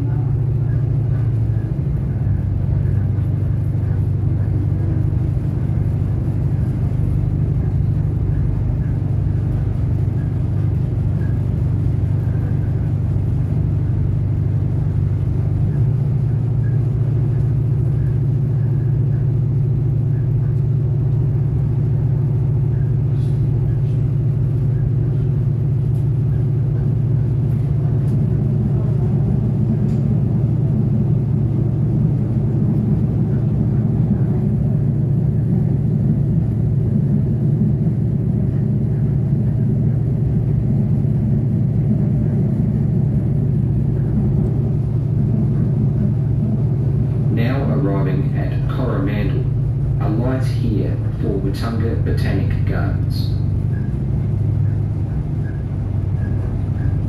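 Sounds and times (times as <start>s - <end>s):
railcar engine and wheels rumble: 0.0s - 57.0s.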